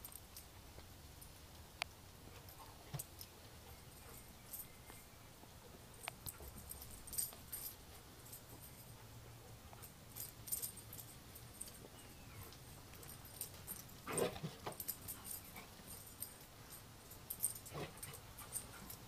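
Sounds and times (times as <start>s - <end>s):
dog collar tags jangling: 0.0s - 0.6s, 2.3s - 5.2s, 5.9s - 19.0s.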